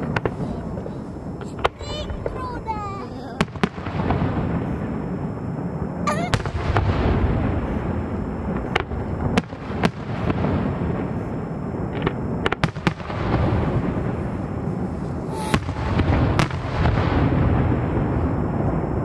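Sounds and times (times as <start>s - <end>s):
fireworks bursting with bangs: 0.0s - 19.0s.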